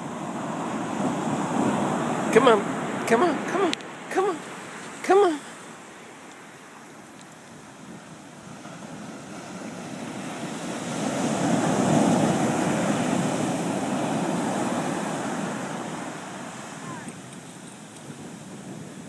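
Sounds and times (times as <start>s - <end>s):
ocean wave breaking on beach: 0.0s - 19.0s.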